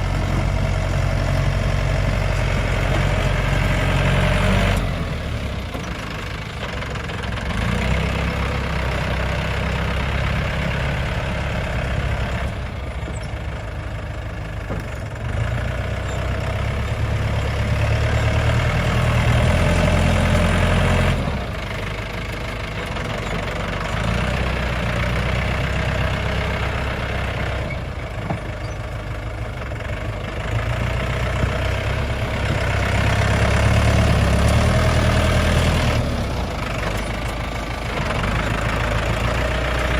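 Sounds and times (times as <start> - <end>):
tractor engine under varying load: 0.0 - 39.9.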